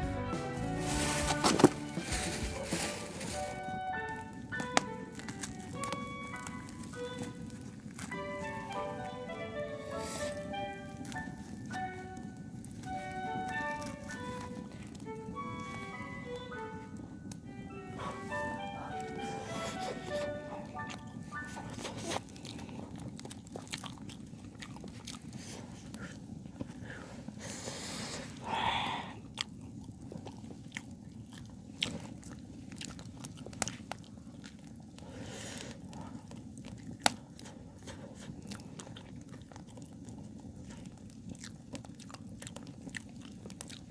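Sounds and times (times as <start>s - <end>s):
low background hum: 0.0s - 43.9s
person chewing: 0.6s - 43.9s.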